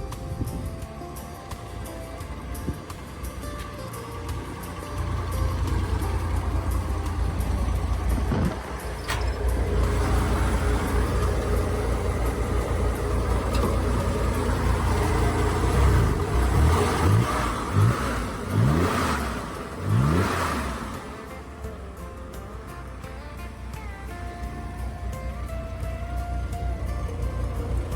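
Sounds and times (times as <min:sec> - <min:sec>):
car engine running and revving: 0:00.0 - 0:27.9.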